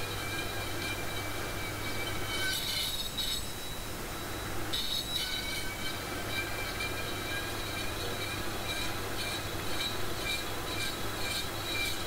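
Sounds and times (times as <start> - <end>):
milling machine hum and whine: 0.0 - 12.0
saw squealing cutting metal: 0.0 - 12.0.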